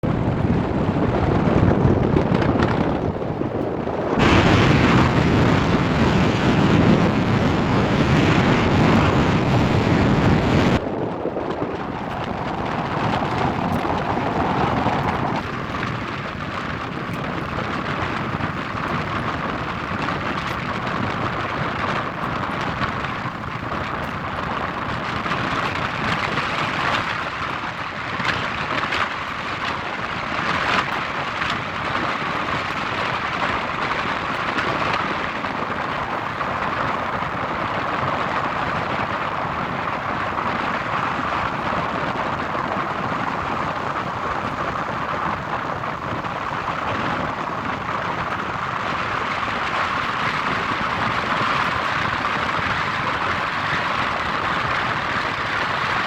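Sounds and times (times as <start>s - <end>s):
city noise in snow: 0.0s - 56.0s.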